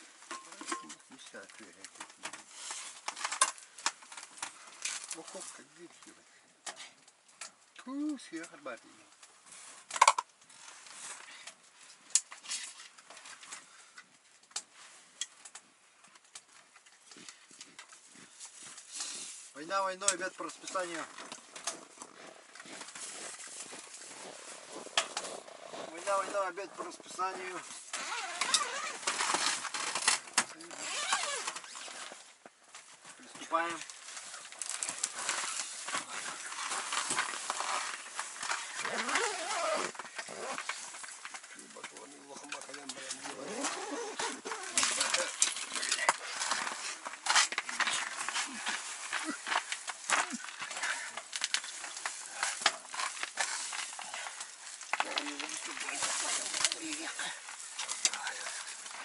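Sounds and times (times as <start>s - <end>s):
clicks and rustles of handling gear: 0.0s - 59.0s.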